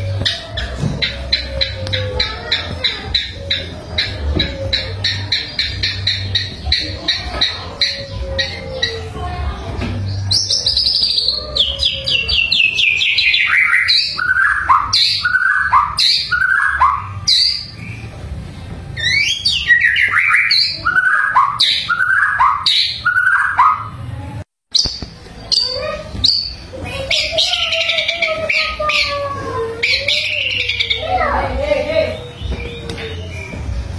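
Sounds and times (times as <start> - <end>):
bird singing: 0.0 - 24.0, 24.7 - 33.9.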